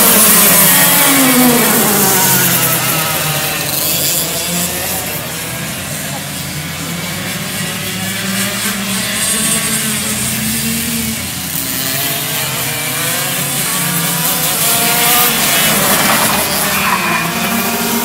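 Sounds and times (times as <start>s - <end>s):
kart engines buzzing: 0.0s - 18.0s.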